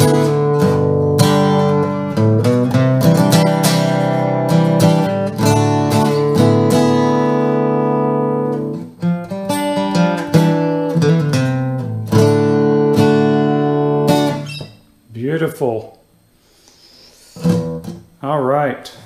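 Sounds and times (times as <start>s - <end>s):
acoustic guitar playing: 0.0s - 15.8s, 16.4s - 18.2s.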